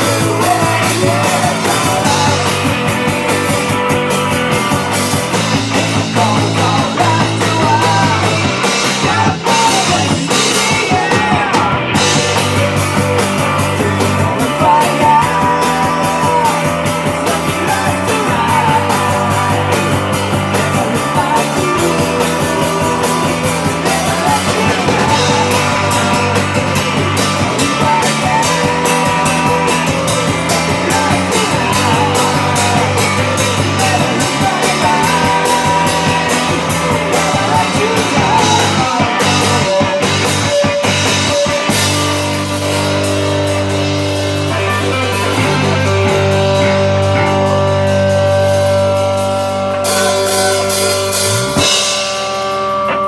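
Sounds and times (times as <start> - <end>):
man singing: 0.0 - 42.4, 44.4 - 52.0
drums: 0.0 - 53.0
electric bass: 0.0 - 53.0
electric guitar: 0.0 - 53.0.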